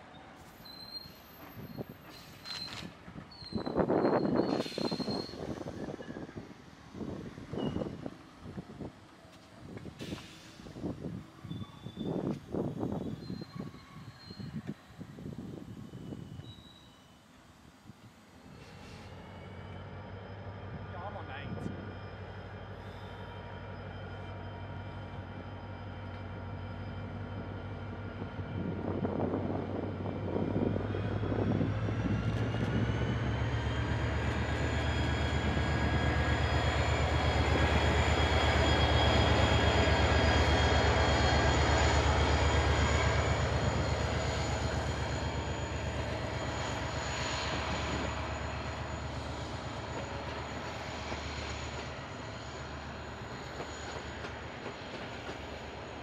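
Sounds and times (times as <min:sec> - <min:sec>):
diesel train passing: 0:00.0 - 0:56.0.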